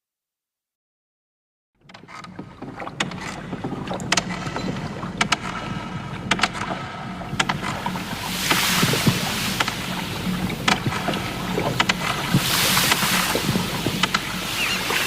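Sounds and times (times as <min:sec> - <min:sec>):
wooden boat knocking: 0:01.8 - 0:15.0
water washing: 0:02.6 - 0:15.0.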